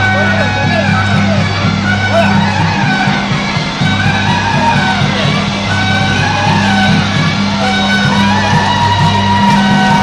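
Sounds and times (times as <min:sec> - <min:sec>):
melody of long held notes: 0:00.0 - 0:10.0.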